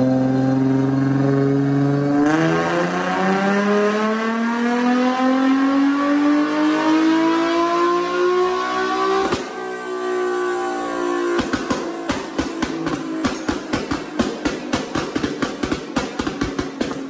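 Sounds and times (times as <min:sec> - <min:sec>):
car engine on dyno pull: 0:00.0 - 0:17.0.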